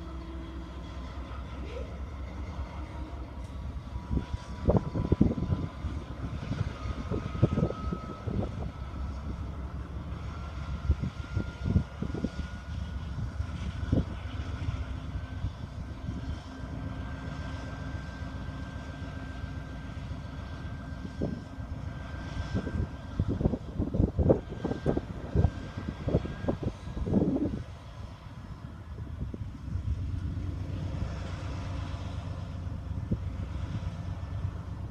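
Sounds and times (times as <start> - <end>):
train rolling past: 0.0 - 34.9.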